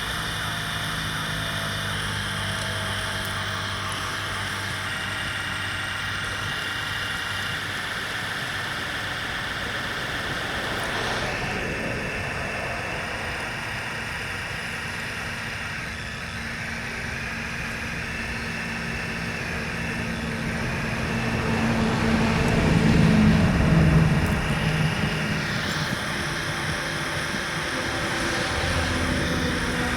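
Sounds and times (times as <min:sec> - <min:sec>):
model trucks mechanical whine: 0:00.0 - 0:29.9.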